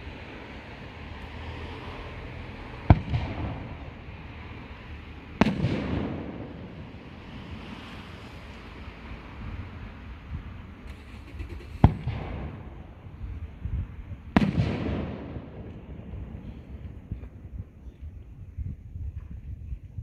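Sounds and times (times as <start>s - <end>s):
fireworks bang and rumble: 0.0s - 20.0s.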